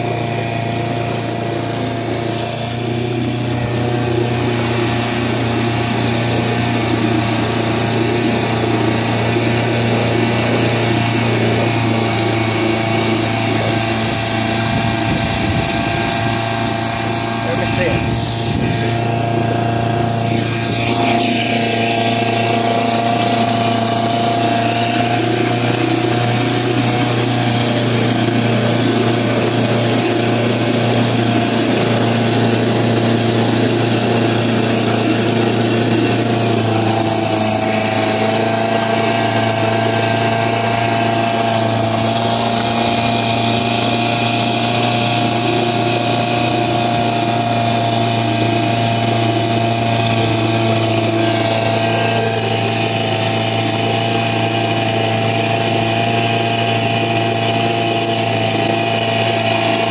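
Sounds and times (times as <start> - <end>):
outboard motor running: 0.0 - 59.9
water churning: 0.0 - 59.9.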